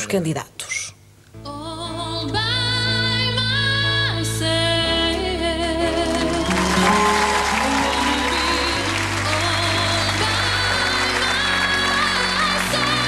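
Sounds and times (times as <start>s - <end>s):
person singing with vibrato: 1.4s - 13.0s
sustained musical accompaniment: 1.4s - 13.0s.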